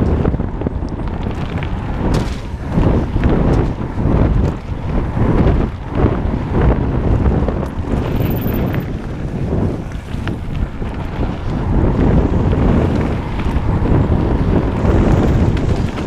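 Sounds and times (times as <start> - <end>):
bike knocks and rattles: 0.0 - 16.0
wind buffeting microphone: 0.0 - 16.0.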